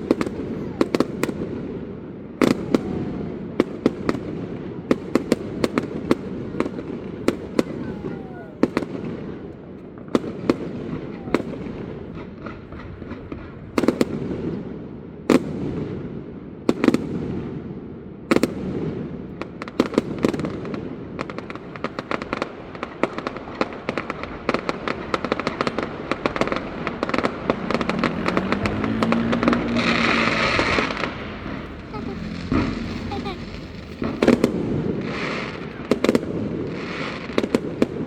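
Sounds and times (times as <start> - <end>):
fireworks bangs: 0.0 - 17.7, 18.3 - 38.0
rapid crackling of fireworks: 0.0 - 38.0.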